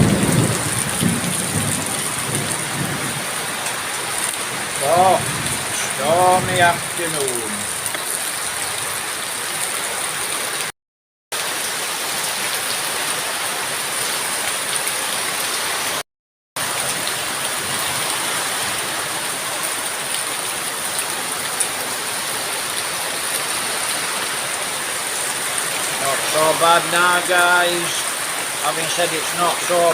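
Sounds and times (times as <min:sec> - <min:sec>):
heavy rain pouring: 0:00.0 - 0:10.7, 0:11.4 - 0:16.0, 0:16.6 - 0:29.9.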